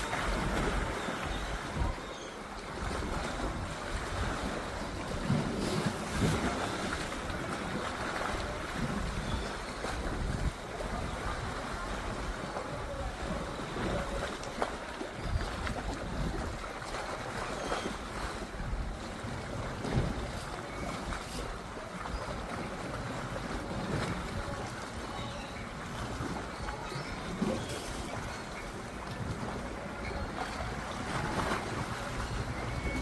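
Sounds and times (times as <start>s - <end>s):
water rushing: 0.0s - 33.0s.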